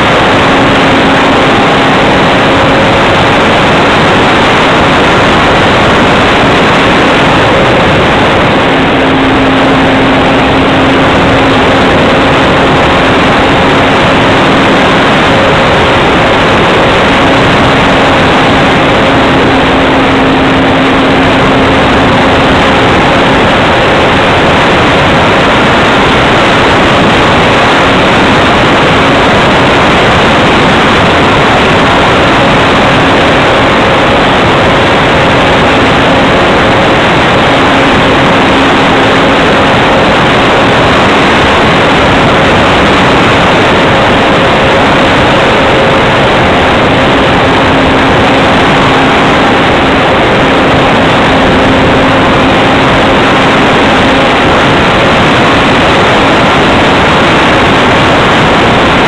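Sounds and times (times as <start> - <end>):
loud wind rush: 0.0 - 59.0
model plane motor and propeller: 0.0 - 59.0.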